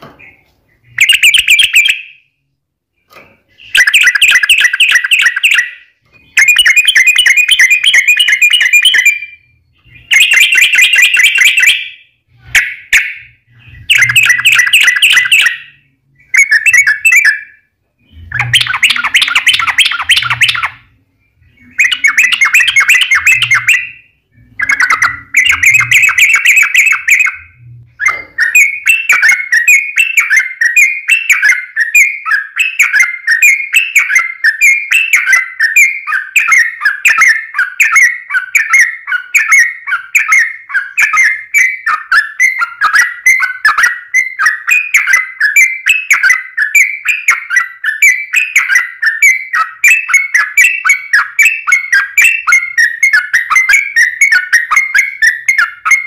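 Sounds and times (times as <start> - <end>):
bird singing rapid chattering: 0.1 - 2.2, 3.0 - 56.0.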